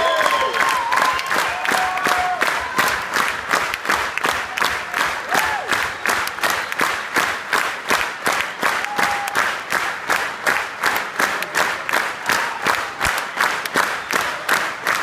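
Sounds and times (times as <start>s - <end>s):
audience clapping in rhythm: 0.0s - 15.0s.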